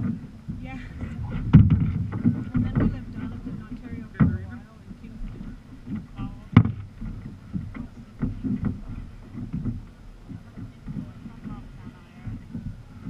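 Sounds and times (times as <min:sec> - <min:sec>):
knocks on kayak: 0:00.0 - 0:04.6, 0:05.2 - 0:13.0
paddle working: 0:00.0 - 0:13.0
water sloshing against hull: 0:00.0 - 0:13.0.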